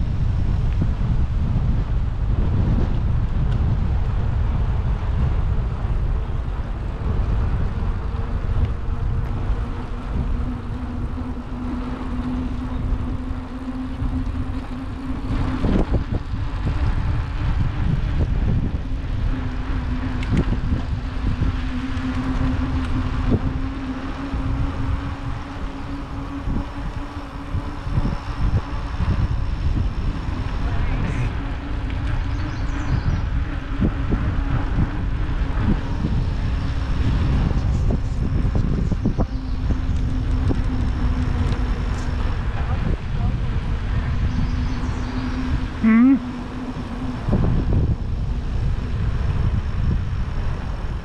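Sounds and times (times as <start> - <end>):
heavy low rumble: 0.0 - 51.0
steady low hum: 0.0 - 51.0
wind buffeting microphone: 0.0 - 51.0.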